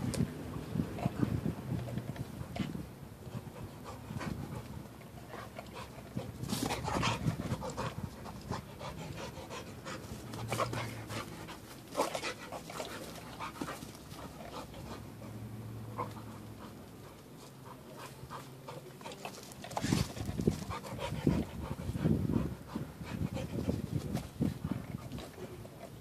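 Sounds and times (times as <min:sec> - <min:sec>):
dog panting: 0:02.1 - 0:26.0.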